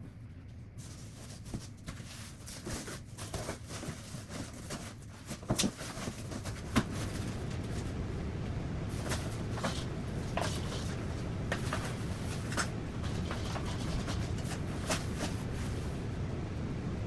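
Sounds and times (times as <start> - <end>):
rustling: 0.7 - 8.2, 8.8 - 16.0.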